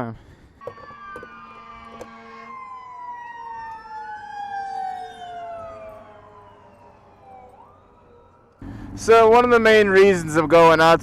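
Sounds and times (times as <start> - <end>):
emergency sirens wailing: 0.5 - 10.1.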